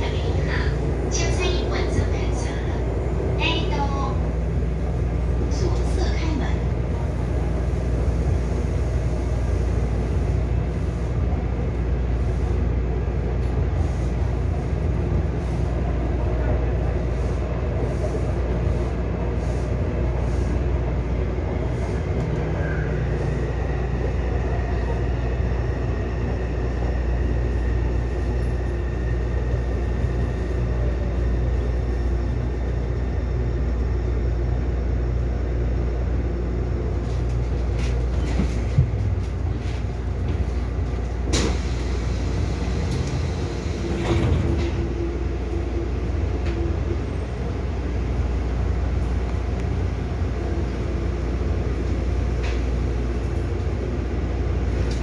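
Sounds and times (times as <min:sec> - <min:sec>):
train car low rumble: 0:00.0 - 0:55.0.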